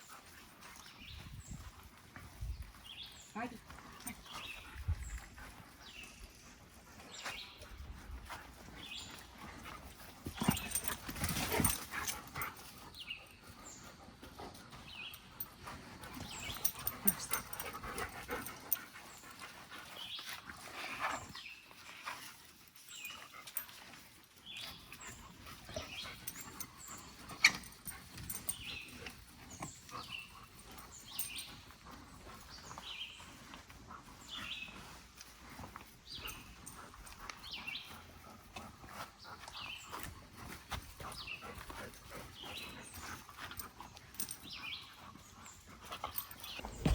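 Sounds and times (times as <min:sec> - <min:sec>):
dogs moving about: 0:03.8 - 0:46.9.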